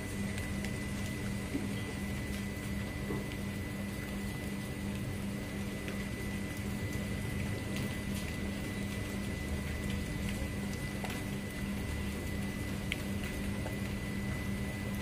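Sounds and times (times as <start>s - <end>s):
machine hum and rumble: 0.0s - 15.0s.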